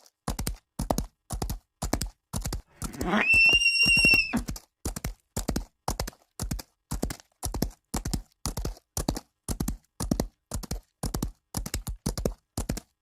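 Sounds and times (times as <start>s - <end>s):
horse hooves galloping: 0.0s - 13.0s.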